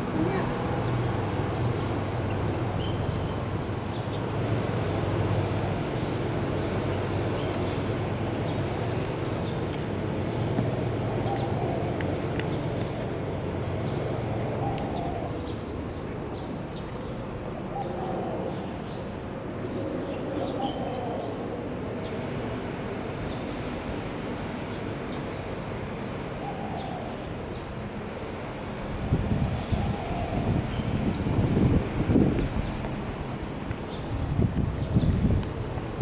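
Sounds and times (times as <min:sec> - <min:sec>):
low rumble of distant traffic: 0:00.0 - 0:36.0.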